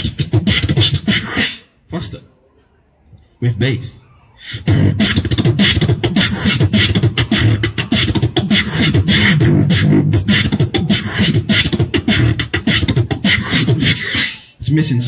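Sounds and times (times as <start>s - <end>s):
person beatboxing into microphone: 0.0s - 1.8s, 4.4s - 14.7s.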